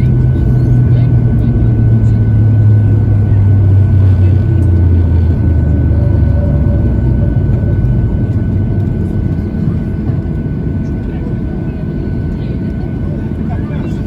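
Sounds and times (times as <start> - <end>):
jet engine rumble in cabin: 0.0 - 14.0.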